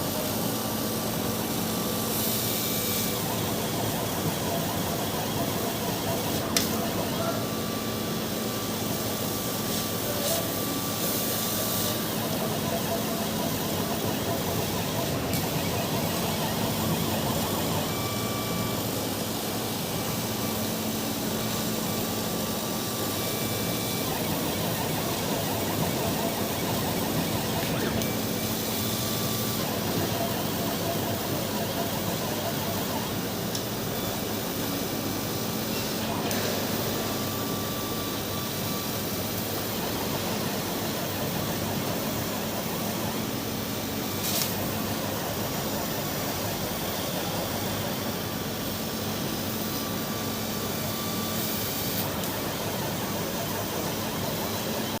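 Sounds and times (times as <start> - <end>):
laser cutter rushing air noise: 0.0 - 55.0.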